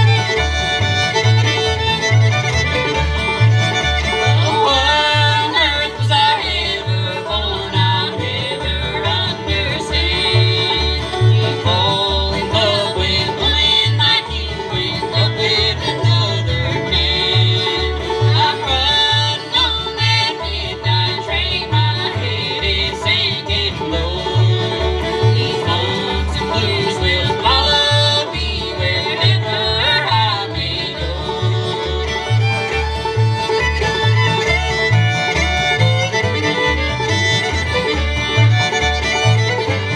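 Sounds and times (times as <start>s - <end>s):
acoustic guitars: 0.0s - 39.9s
banjo picking: 0.0s - 39.9s
fiddle: 0.0s - 39.9s
upright bass: 0.0s - 39.9s.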